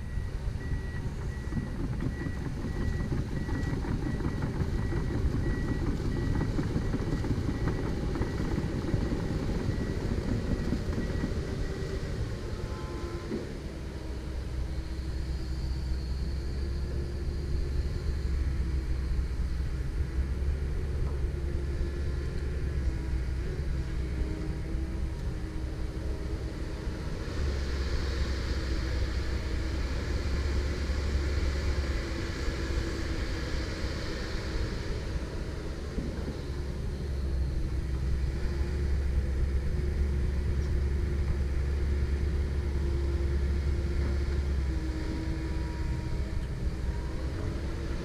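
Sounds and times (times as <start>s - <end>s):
excavator diesel engine rumble: 0.0s - 48.0s.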